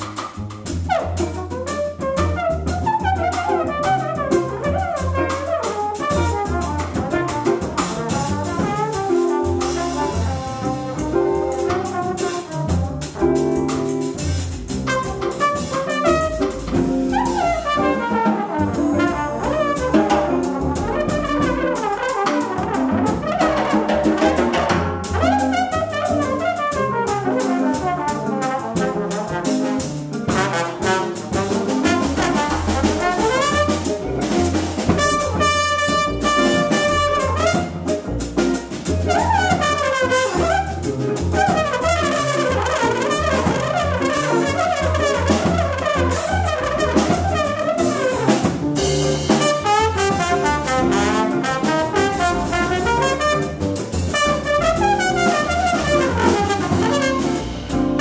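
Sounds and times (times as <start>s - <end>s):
drum kit: 0.0s - 58.0s
upright bass: 0.0s - 58.0s
trombone solo: 0.8s - 58.0s.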